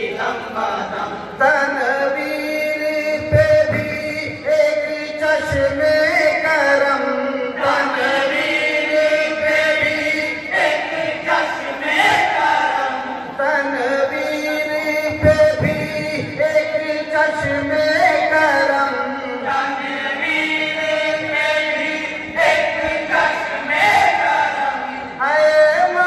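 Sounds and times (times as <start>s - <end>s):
men singing through pa system: 0.0s - 26.0s.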